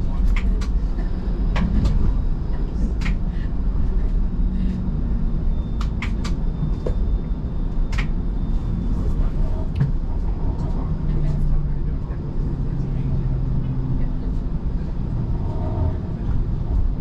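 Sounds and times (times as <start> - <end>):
streetcar low rumble: 0.0 - 17.0.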